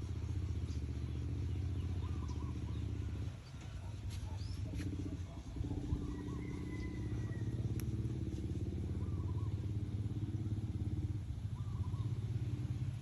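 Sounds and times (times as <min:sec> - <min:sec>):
small engine pulsing: 0:00.0 - 0:13.0.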